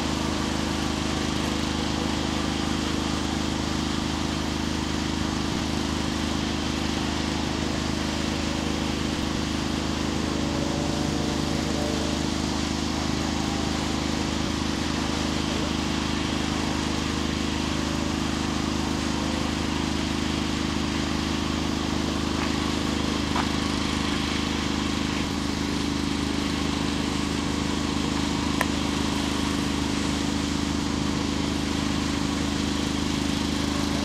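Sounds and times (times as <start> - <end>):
low mechanical drone with hiss: 0.0 - 34.0.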